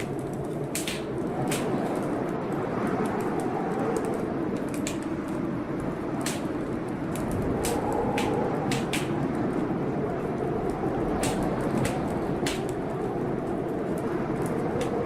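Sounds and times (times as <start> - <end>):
rushing rainstorm: 0.0 - 15.0
wood fire crackling: 0.0 - 15.0.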